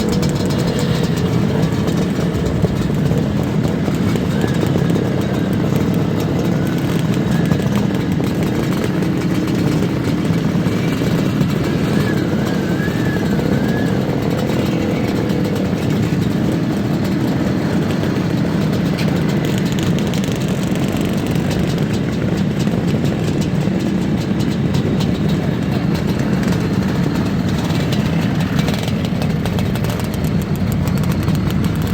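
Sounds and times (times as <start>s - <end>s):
motorcycle engines running: 0.0s - 31.9s.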